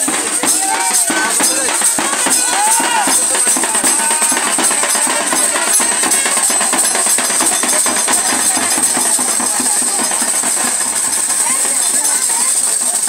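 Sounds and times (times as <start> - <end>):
drum beaten in fast rhythm: 0.0 - 13.0
metallic jingle: 0.0 - 13.0.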